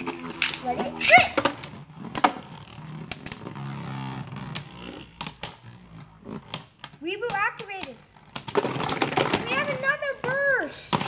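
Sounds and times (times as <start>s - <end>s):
spinning tops in plastic stadium: 0.0s - 11.0s.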